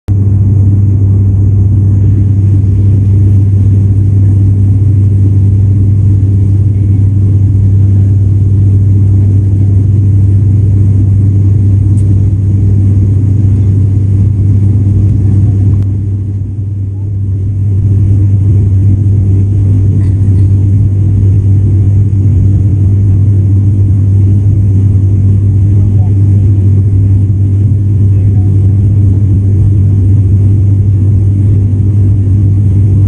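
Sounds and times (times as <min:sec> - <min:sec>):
propeller plane cabin drone: 0:00.1 - 0:33.0.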